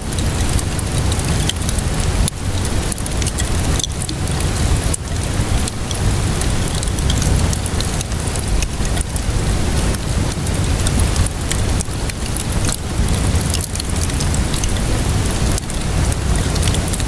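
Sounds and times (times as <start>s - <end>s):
steady rainfall: 0.0s - 17.0s
wood fire snaps and pops: 0.0s - 17.0s.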